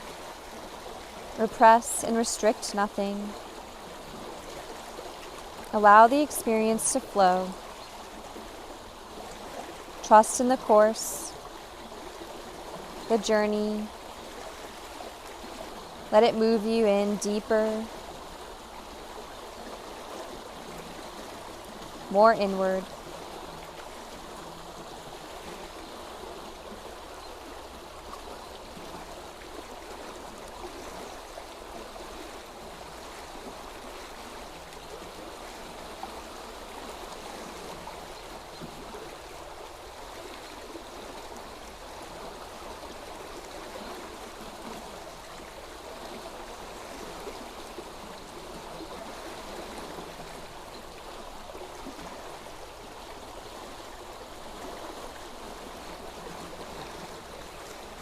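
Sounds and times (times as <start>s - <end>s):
stream of water babbling: 0.0s - 58.0s.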